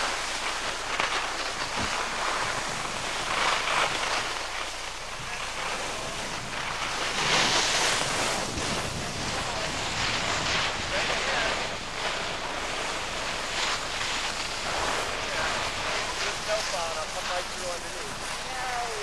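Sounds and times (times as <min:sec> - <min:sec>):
skis scraping over snow: 0:00.0 - 0:19.0
wind noise on microphone: 0:00.0 - 0:19.0.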